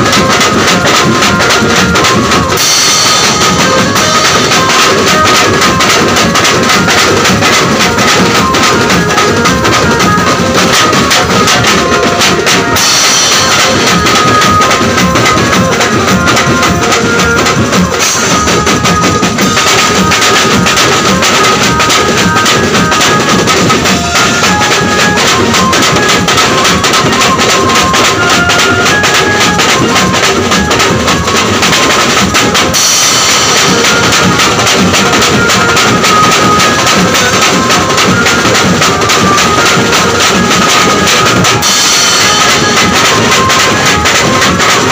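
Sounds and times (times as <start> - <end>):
banjo party band playing: 0.0 - 44.9
drum kit beat: 0.0 - 44.9
hand-beaten side drums: 0.0 - 44.9.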